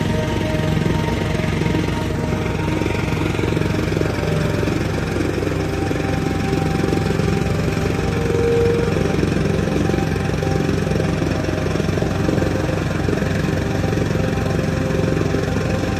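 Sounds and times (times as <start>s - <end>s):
threshing drum whirring: 0.0s - 15.9s
threshing machine engine running: 0.0s - 15.9s.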